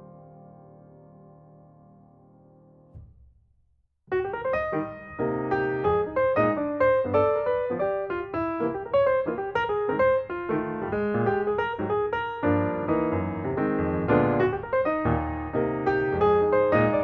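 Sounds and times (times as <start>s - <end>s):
piano music: 0.0s - 3.0s, 4.1s - 17.0s.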